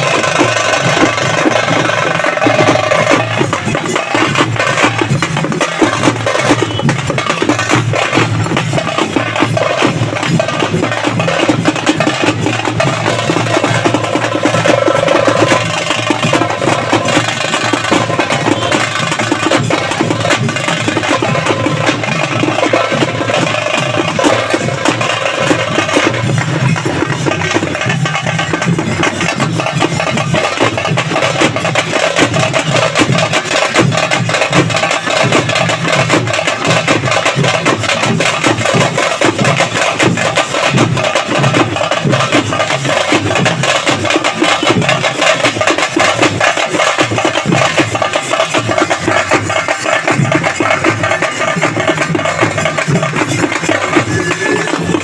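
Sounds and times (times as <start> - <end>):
music with fast busy percussion: 0.0 - 55.0.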